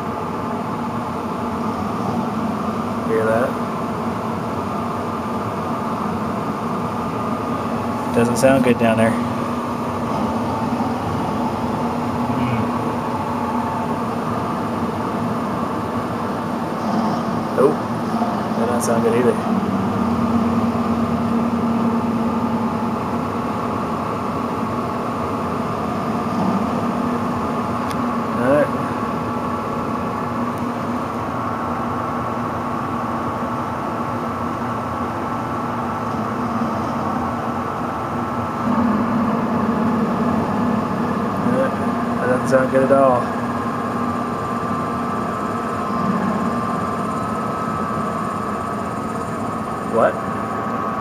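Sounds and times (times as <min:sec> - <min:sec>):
furnace blower humming: 0:00.0 - 0:51.0.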